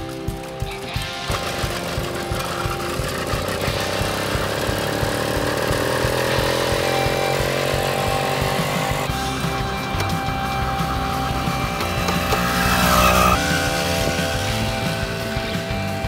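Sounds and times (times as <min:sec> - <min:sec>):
small two-stroke engine running: 0:00.0 - 0:16.0.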